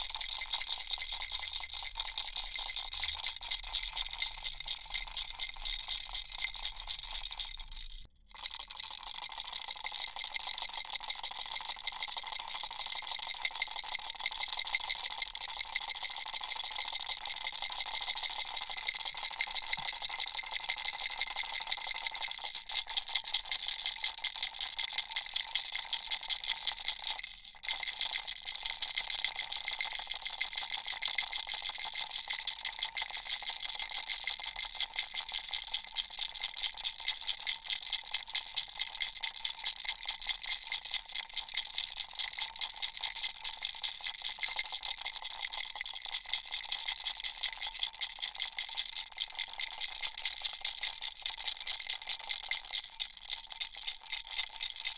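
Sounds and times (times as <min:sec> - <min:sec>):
baby rattle shaken: 0:00.0 - 0:54.9.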